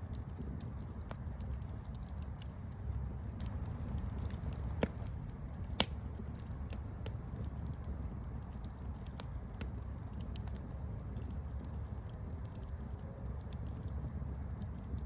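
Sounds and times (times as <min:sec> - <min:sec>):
campfire rumbling: 0:00.0 - 0:15.0
fire crackles and pops: 0:00.0 - 0:15.0.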